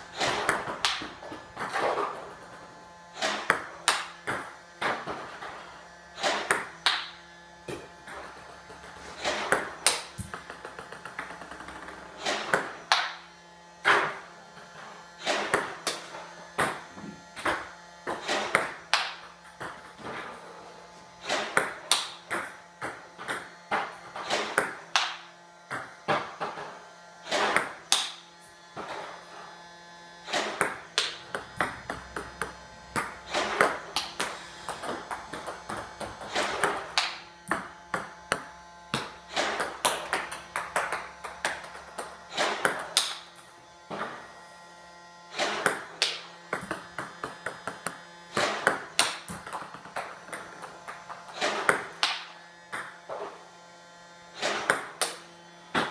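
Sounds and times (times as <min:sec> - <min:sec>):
table tennis balls hitting a bat: 0:00.0 - 0:20.4, 0:21.2 - 0:29.2, 0:30.2 - 0:44.3, 0:45.3 - 0:53.4, 0:54.4 - 0:55.9.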